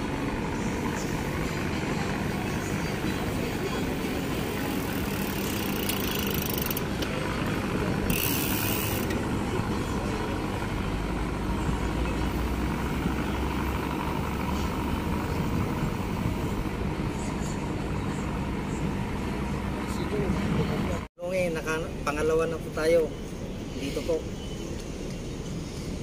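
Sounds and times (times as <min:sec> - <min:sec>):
boat engines rumbling: 0:00.0 - 0:25.6.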